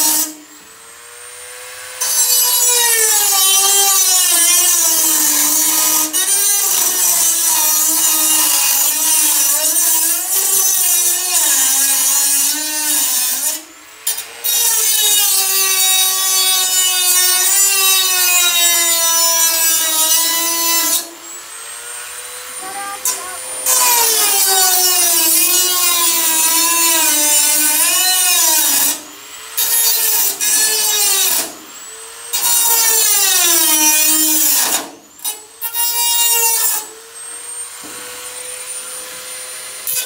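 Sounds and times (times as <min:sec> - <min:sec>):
rotary tool cutting metal: 0:00.0 - 0:40.0.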